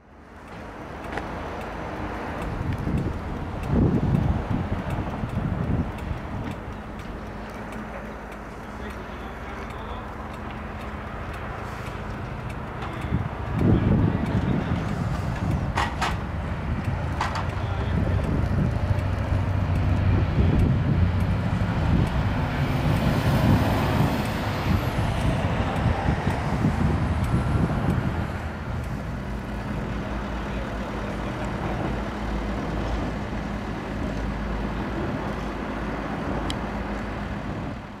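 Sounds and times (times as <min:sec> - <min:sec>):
heavy vehicle traffic rumble: 0:00.0 - 0:38.0.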